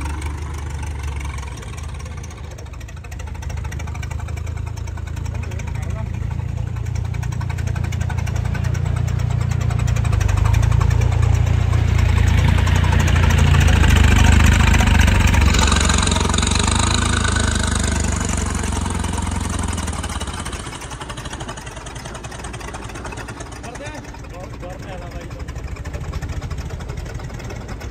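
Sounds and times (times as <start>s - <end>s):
tractor diesel engine revving: 0.0s - 27.9s.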